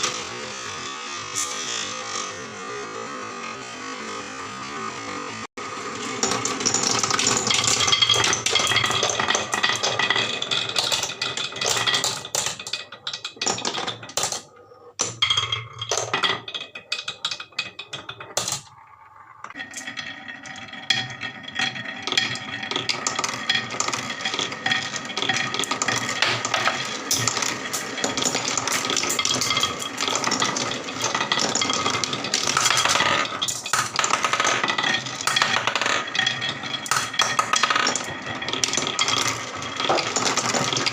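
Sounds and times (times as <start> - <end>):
marbles rattling down a marble run: 0.0 - 40.9.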